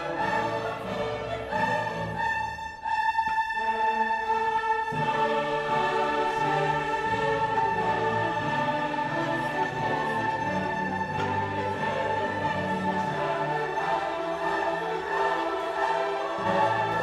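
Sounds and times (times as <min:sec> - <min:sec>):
orchestral classical music: 0:00.0 - 0:17.0.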